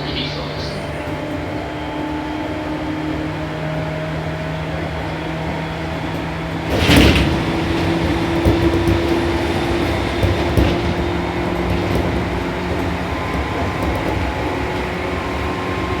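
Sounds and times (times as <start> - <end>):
rail and running noise: 0.0 - 16.0
train motor hum: 0.0 - 16.0.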